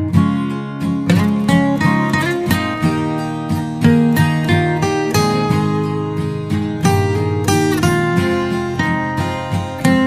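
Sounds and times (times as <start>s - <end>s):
plucked string instrument: 0.0s - 10.0s.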